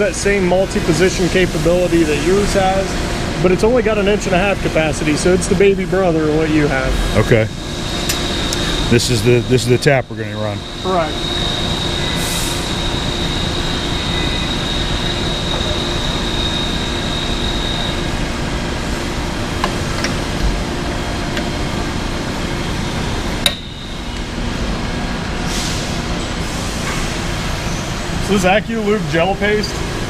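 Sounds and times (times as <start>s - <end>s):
thin high whine: 0.0s - 19.6s, 20.7s - 30.0s
machine running: 0.0s - 30.0s.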